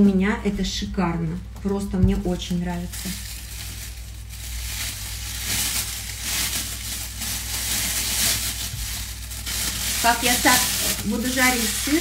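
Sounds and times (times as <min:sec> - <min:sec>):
plastic bag crinkling: 0:01.6 - 0:12.0.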